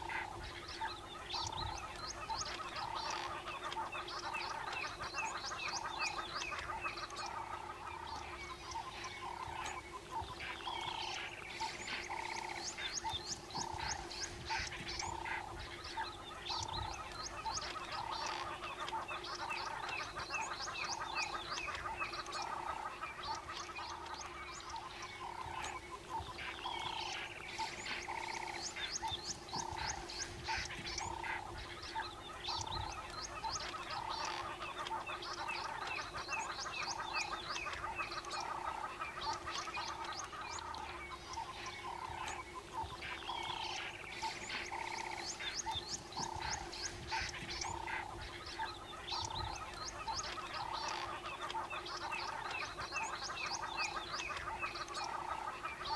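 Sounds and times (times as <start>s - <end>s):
high-pitched clicking calls: 0.0s - 7.4s, 10.4s - 55.9s.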